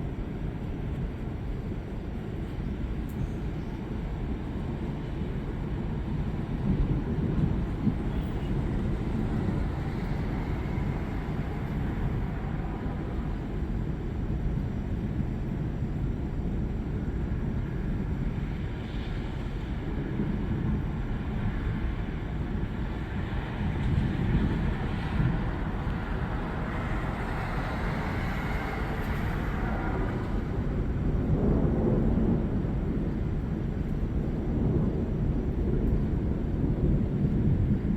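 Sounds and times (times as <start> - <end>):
thunderstorm low rumble: 0.0 - 37.9.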